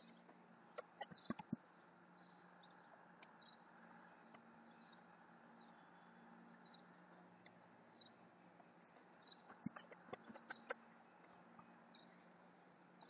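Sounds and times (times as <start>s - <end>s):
faint clicks: 0.0s - 5.0s, 7.4s - 13.0s
low steady hum: 0.0s - 13.0s.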